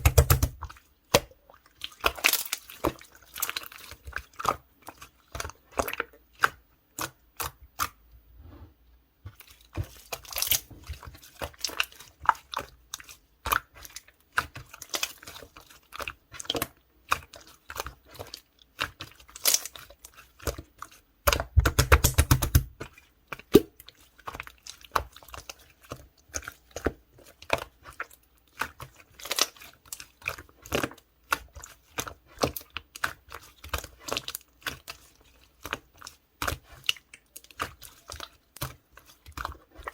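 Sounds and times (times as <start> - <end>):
slime crackling rapidly: 0.0 - 7.9, 9.3 - 39.9
slime squished by hand: 0.0 - 8.0, 9.3 - 39.9.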